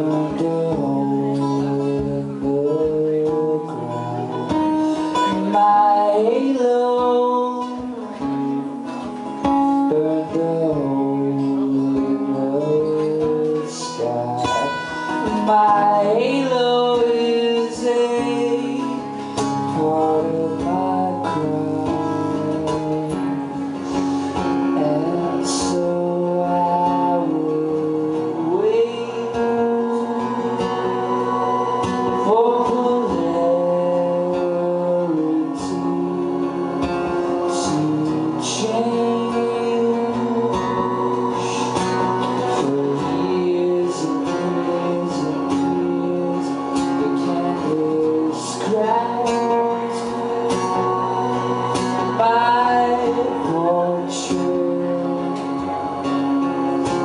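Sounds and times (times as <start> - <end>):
man singing long held notes: 0.0 - 8.8, 9.7 - 57.0
acoustic guitar through effects: 0.0 - 57.0.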